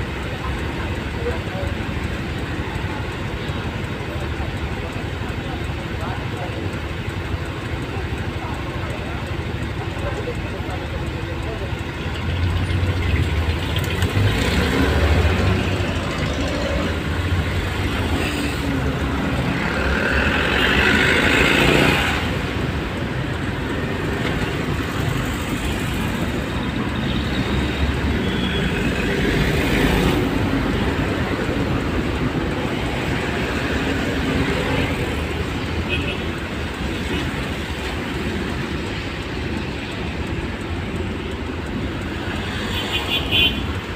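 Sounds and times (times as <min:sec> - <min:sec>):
traffic road and engine noise: 0:00.0 - 0:43.9.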